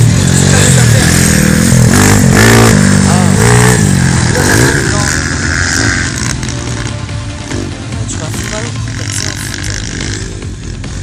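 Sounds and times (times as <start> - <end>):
pit bike engine revving: 0.0 - 11.0.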